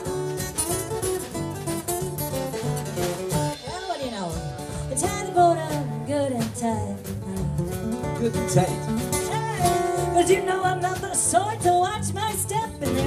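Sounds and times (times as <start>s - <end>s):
acoustic guitars strumming: 0.0s - 13.0s.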